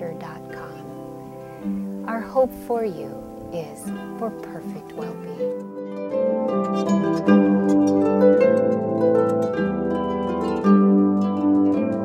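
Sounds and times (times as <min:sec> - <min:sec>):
harp music: 0:00.0 - 0:12.0.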